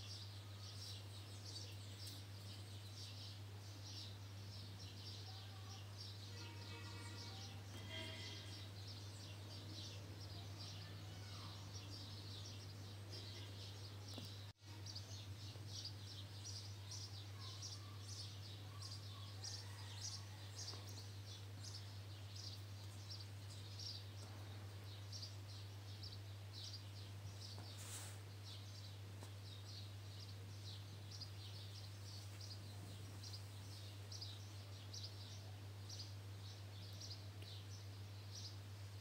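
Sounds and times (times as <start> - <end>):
faint birds chirping: 0.0 - 39.0.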